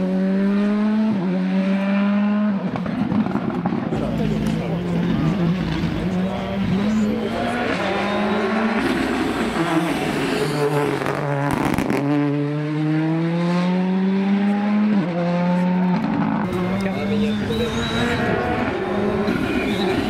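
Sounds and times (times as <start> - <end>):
rally car passing at full throttle: 0.0 - 20.0.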